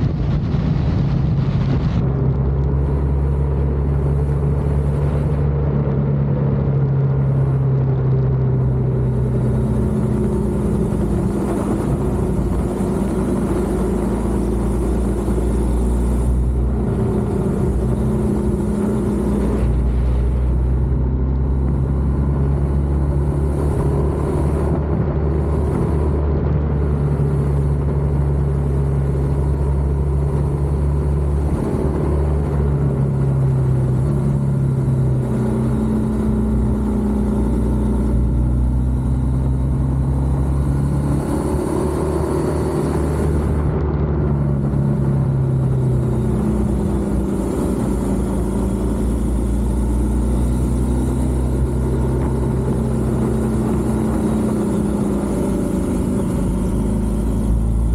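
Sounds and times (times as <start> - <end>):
motorcycle engine running: 0.0 - 57.9
wind and road noise: 0.0 - 57.9.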